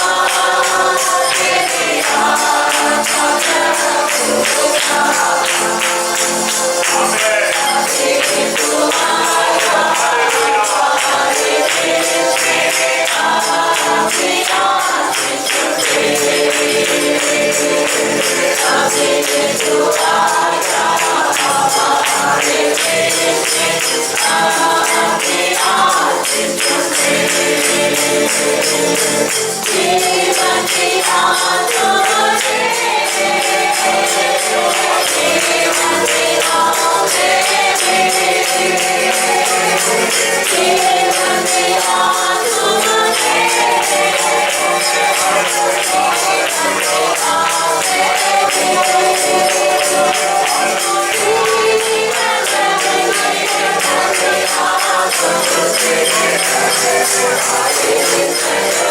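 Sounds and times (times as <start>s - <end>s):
congregation singing: 0.0s - 58.9s
tambourine beat: 0.0s - 58.9s.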